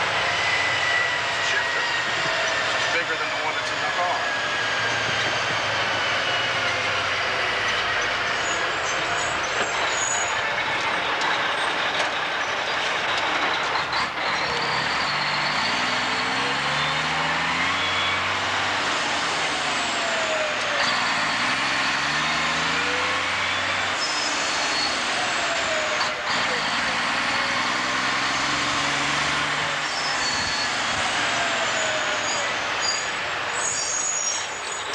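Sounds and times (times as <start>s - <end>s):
gear whine: 0.0s - 34.9s
truck diesel engine shifting gears: 0.0s - 34.9s.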